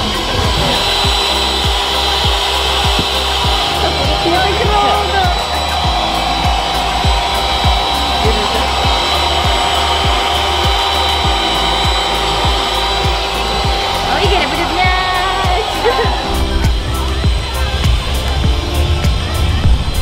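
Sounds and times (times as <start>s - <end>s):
electric air pump blowing: 0.0s - 20.0s
music with steady beat: 0.0s - 20.0s.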